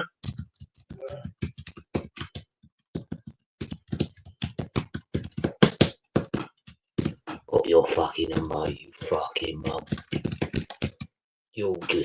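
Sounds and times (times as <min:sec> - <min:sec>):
typing on a keyboard: 0:00.0 - 0:07.2, 0:07.9 - 0:11.2.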